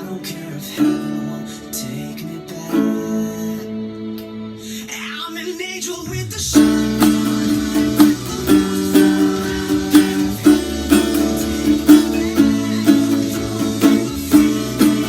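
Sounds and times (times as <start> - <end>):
acoustic guitar instrumental music: 0.0 - 5.1, 6.5 - 15.0.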